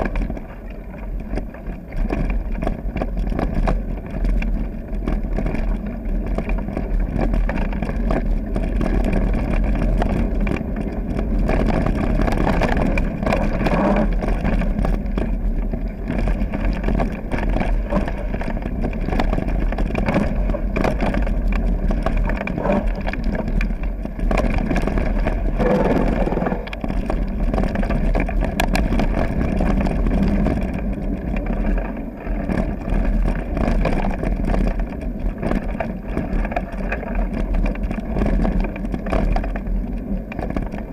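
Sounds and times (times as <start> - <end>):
bike knocks and rattles: 0.0 - 40.9
tyres crunching over stones: 0.0 - 40.9
wind buffeting microphone: 0.0 - 40.9.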